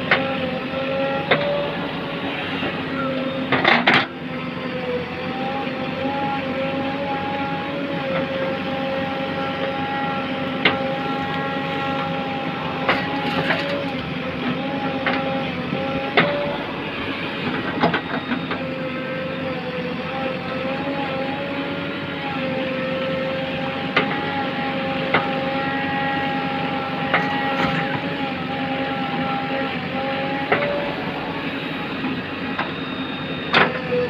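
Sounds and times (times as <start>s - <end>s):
diesel engine under load: 0.0s - 34.0s.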